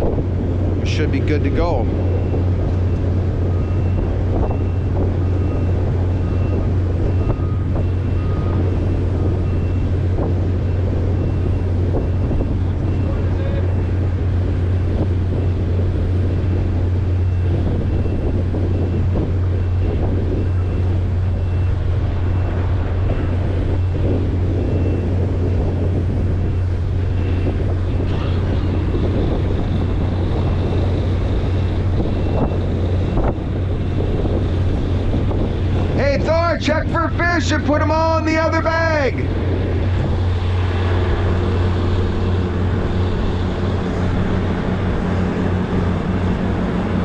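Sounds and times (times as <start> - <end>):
boat engine droning: 0.0 - 47.0
wind buffeting the microphone: 0.0 - 47.0.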